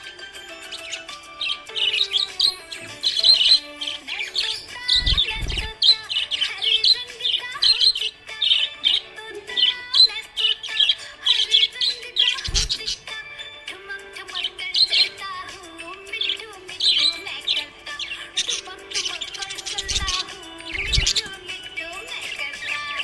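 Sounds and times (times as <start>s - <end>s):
budgerigar chirping: 0.5s - 13.2s, 14.2s - 23.0s.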